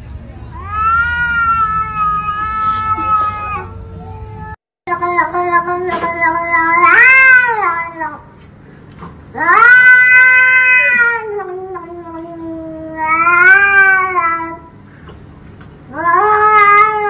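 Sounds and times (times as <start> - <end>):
cat meowing in long yowls: 0.6 - 8.2, 9.4 - 14.6, 15.9 - 17.0.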